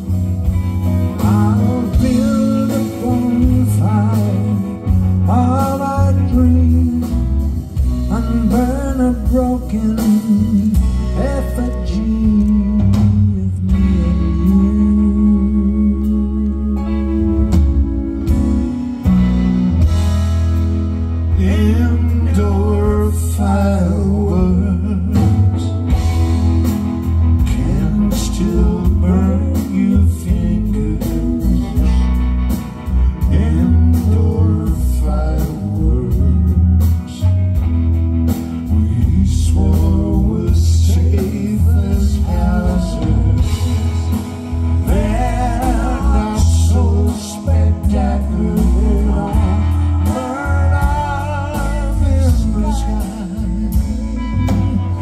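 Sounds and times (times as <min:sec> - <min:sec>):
acoustic guitar: 0:00.0 - 0:55.0
bass guitar: 0:00.0 - 0:55.0
drums: 0:00.0 - 0:55.0
electric guitar: 0:00.0 - 0:55.0.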